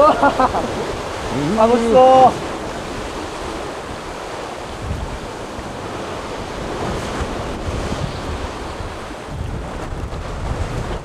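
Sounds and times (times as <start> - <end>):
surf breaking on rocks: 0.0 - 11.0
wind buffeting microphone: 0.0 - 11.0.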